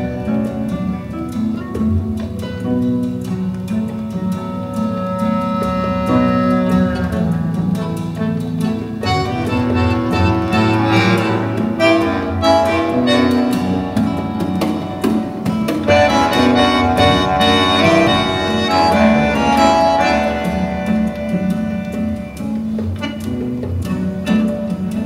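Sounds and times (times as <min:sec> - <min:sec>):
instrumental music over loudspeakers: 0:00.0 - 0:25.0.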